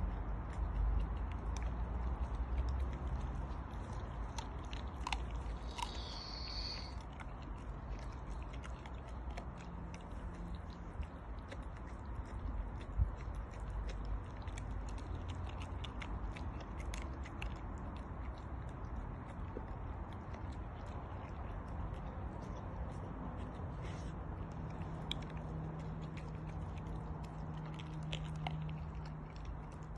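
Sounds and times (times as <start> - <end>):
dog chewing bones crunching: 0.0 - 29.9.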